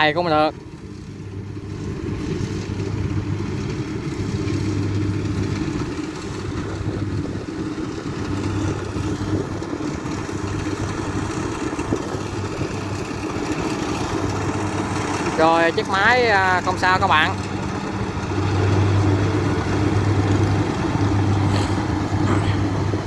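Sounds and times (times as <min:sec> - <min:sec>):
combine harvester engine hum: 0:00.0 - 0:23.0.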